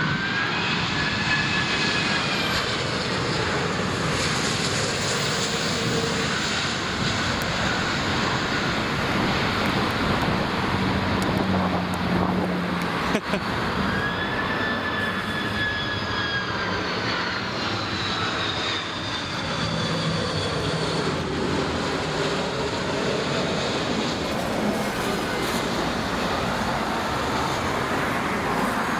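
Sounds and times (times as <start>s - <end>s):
jet engine whine: 0.0s - 28.9s
jet engines roaring: 0.0s - 28.9s.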